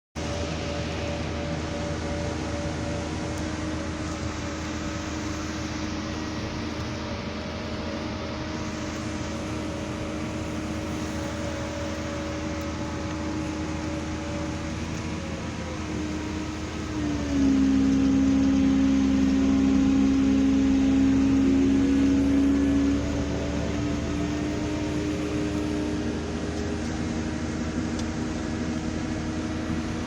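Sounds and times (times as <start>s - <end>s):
excavator engine hum and whine: 0.2s - 30.0s.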